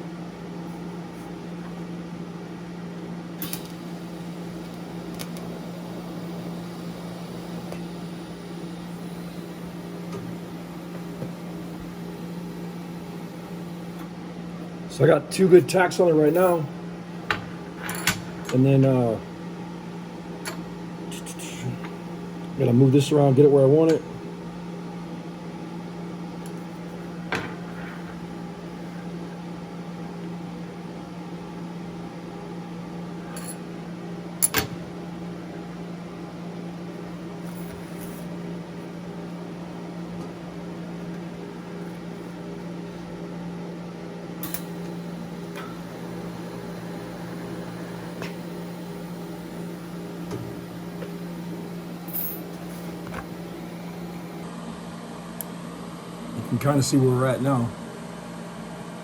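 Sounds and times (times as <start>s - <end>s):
electrical hum of equipment: 0.0s - 59.0s.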